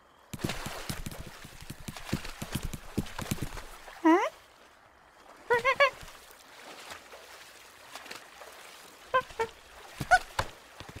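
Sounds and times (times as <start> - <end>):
faint flowing water: 0.0 - 11.0.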